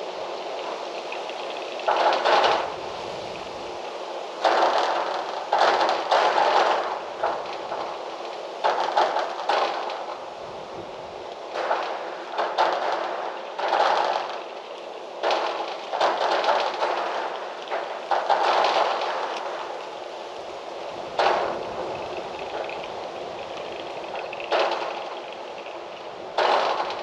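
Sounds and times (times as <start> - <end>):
rustling and crackling: 0.0 - 27.0
wind gusts: 0.0 - 27.0.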